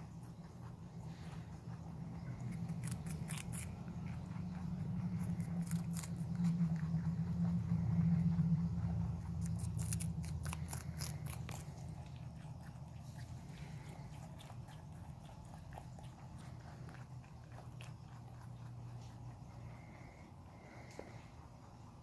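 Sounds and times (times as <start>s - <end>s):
low hum: 0.0s - 22.0s
pets chewing raw vegetables: 0.0s - 22.0s.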